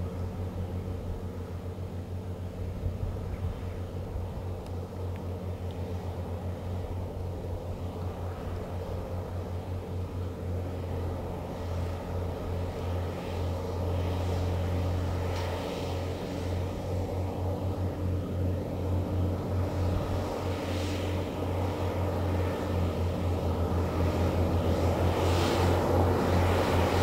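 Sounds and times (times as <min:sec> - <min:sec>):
tractor engines droning: 0:00.0 - 0:27.0.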